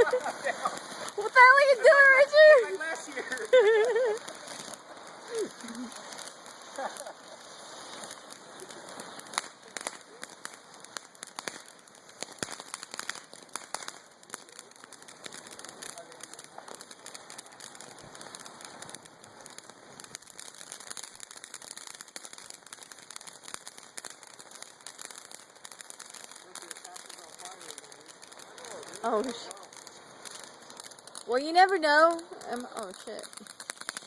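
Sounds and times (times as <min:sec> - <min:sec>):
fireworks hissing crackle: 0:00.0 - 0:34.0
sharp firework pops: 0:00.0 - 0:34.0.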